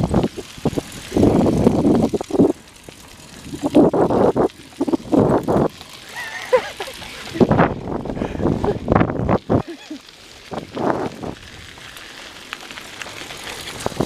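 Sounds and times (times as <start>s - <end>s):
bicycle tires rolling: 0.0s - 14.0s
wind gusts: 0.0s - 14.0s.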